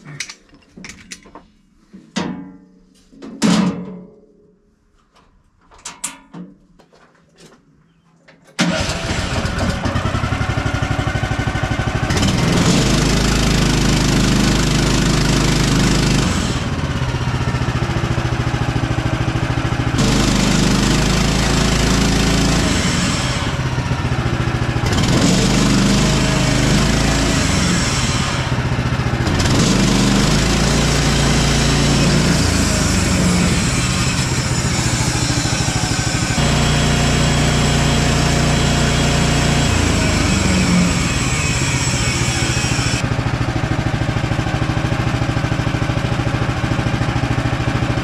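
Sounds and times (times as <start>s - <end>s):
sawmill gas engine running: 8.6s - 48.0s.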